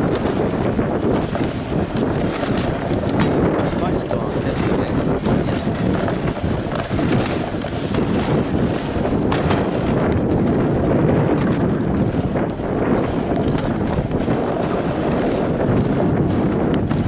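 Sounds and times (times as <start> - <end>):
sled runners hissing over snow: 0.0 - 17.0
wind rumble on microphone: 0.0 - 17.0.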